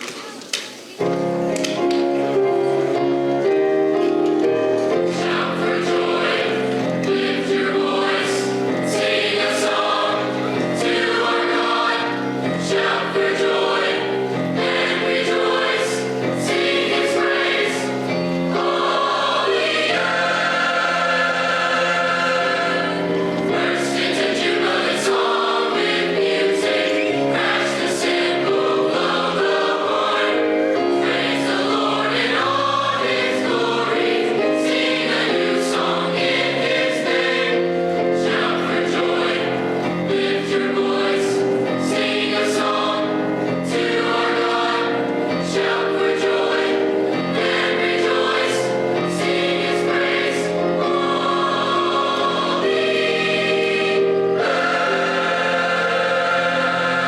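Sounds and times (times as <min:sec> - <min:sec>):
choir singing in harmony: 0:00.1 - 0:57.0.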